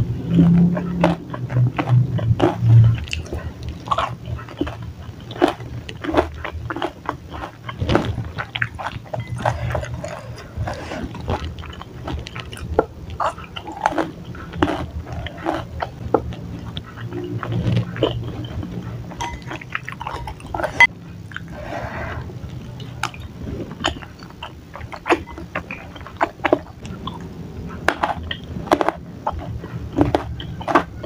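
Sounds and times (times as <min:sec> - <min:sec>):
wet chewing clicks: 0:00.0 - 0:21.6, 0:22.4 - 0:31.0.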